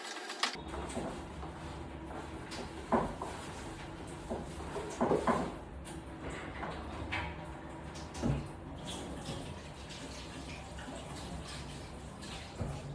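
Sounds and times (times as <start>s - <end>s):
water running and splashing: 0.0s - 12.9s.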